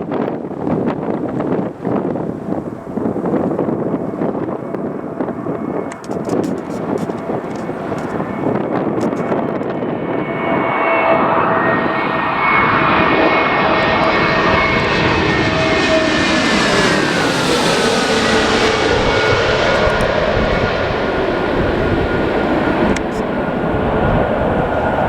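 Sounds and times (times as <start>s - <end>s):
airliner engines whining overhead: 0.0s - 25.0s.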